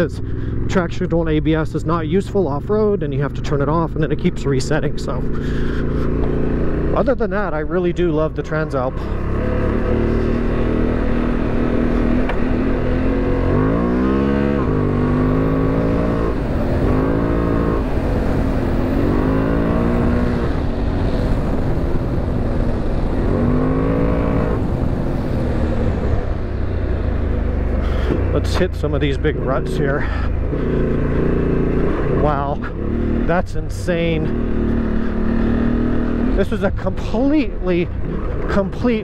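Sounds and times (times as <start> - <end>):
motorcycle engine revving: 0.0 - 39.0
road noise: 0.0 - 39.0.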